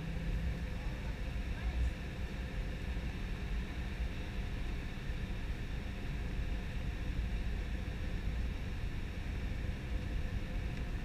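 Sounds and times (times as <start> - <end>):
faint steady hum of tones: 0.0 - 11.0
jet engine noise: 0.0 - 11.0.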